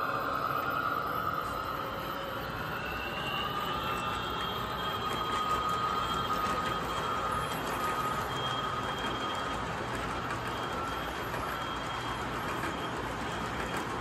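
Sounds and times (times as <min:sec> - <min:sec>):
thin high squeal: 0:00.0 - 0:14.0
model train wheels rumbling: 0:02.3 - 0:14.0.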